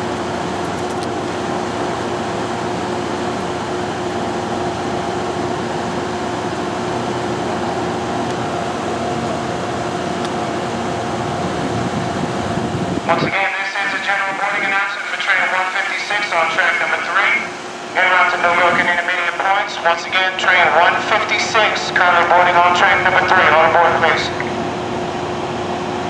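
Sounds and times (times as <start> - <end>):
air conditioning hum: 0.0 - 26.0.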